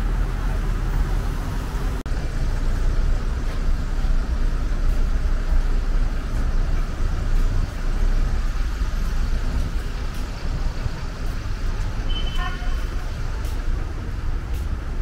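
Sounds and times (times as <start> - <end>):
rumble of road traffic: 0.0 - 15.0.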